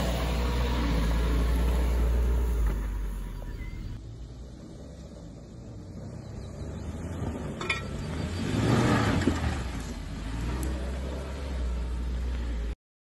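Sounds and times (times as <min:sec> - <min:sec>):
off-road vehicle engine climbing: 0:00.0 - 0:12.8.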